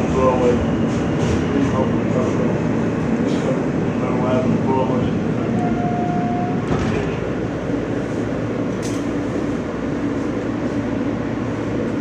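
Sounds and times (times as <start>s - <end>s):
subway car rumbling on rails: 0.0s - 12.0s.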